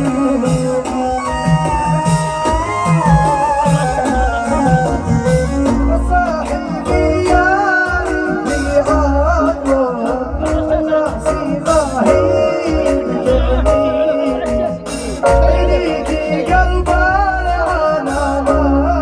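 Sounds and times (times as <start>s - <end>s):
instrumental backing: 0.0s - 19.0s
low repeated drum beat: 0.0s - 19.0s
man singing: 0.0s - 19.0s.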